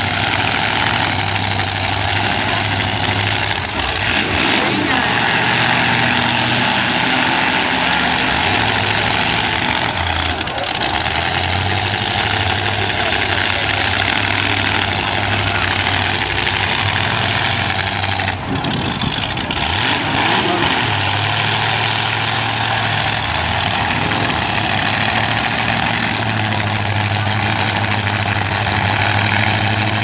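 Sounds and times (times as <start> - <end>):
car engines running: 0.0 - 30.0
dense noisy wash: 0.0 - 30.0.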